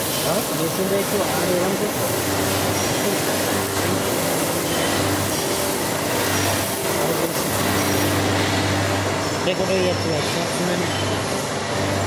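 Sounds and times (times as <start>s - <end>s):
wire wheels hissing: 0.0s - 12.0s.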